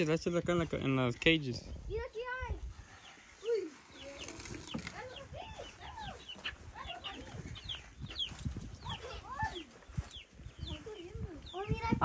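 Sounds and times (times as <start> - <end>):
chickens clucking: 1.7 - 12.0.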